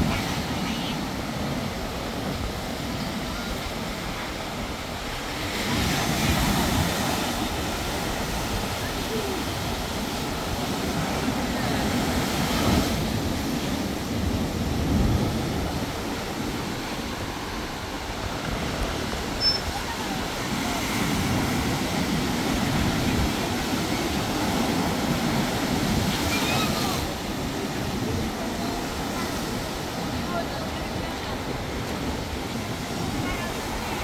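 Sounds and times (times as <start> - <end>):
sea surf breaking: 0.0 - 34.0
wind rumble on microphone: 0.0 - 34.0.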